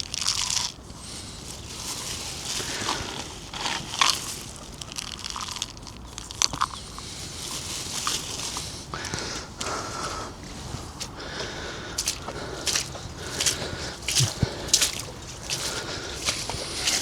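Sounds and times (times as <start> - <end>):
crunching and crinkling handling: 0.0 - 17.0.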